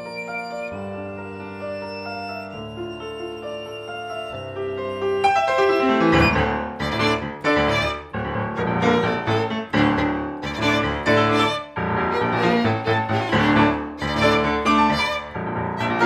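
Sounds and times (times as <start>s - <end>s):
violin and piano playing: 0.0s - 16.0s.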